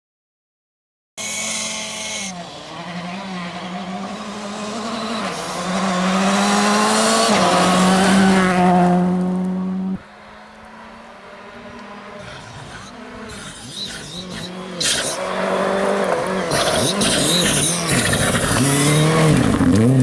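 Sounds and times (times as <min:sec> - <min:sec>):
rally car engine revving: 0:01.2 - 0:20.0.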